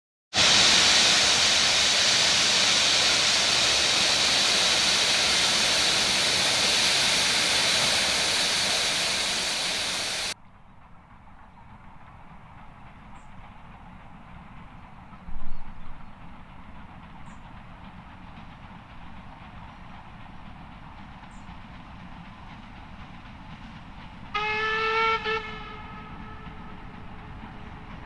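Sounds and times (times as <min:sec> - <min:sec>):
steam locomotive hissing steam: 0:00.3 - 0:10.4, 0:12.0 - 0:28.0.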